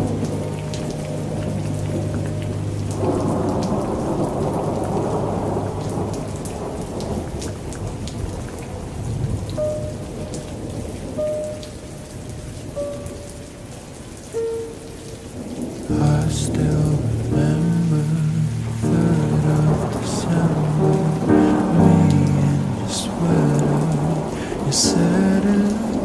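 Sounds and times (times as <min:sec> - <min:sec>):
rain pattering: 0:00.0 - 0:26.0
thunder rumbling: 0:00.0 - 0:26.0.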